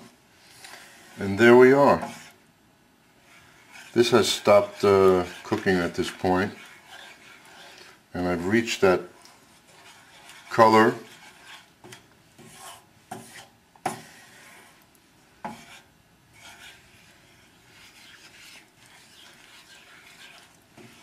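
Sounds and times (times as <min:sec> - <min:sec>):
wooden spatula scraping a pan: 0:00.0 - 0:02.4, 0:03.1 - 0:21.0.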